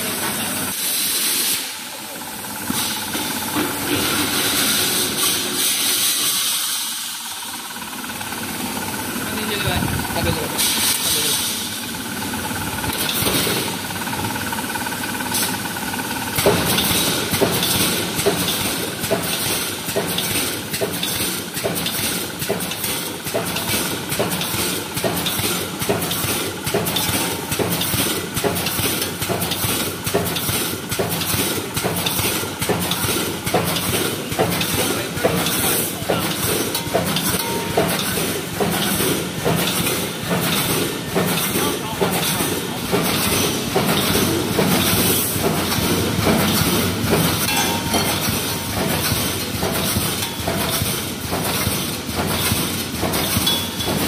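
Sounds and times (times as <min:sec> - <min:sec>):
welding machine clacking: 0:00.0 - 0:54.0.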